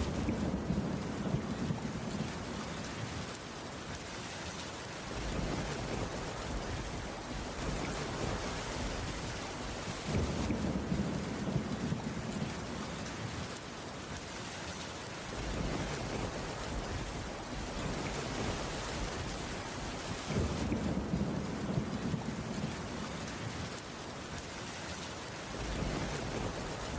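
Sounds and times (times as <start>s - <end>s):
rain on a wooden roof: 0.0s - 26.9s.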